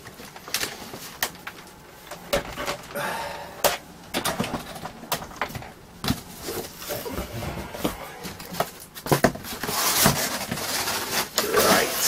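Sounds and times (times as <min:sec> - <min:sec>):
cardboard and bubble wrap rustling: 0:00.0 - 0:02.4, 0:04.4 - 0:12.0.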